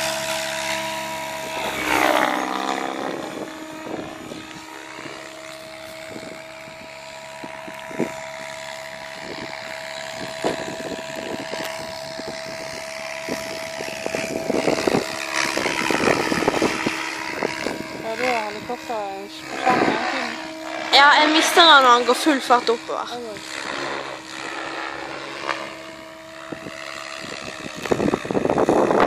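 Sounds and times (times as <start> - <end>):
rc helicopter rotor whine: 0.0 - 29.0
wind buffeting microphone: 0.0 - 29.0.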